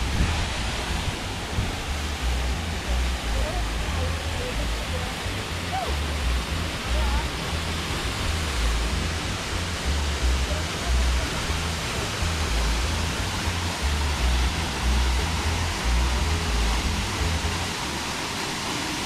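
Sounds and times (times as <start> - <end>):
low rumble: 0.0 - 17.8
waterfall rushing: 0.0 - 19.0.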